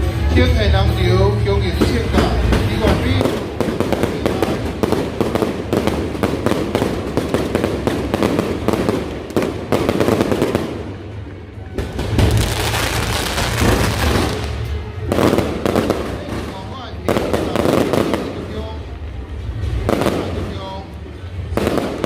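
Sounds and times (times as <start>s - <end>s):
firecrackers crackling: 0.0s - 22.0s
deep booms of aerial fireworks: 1.8s - 22.0s.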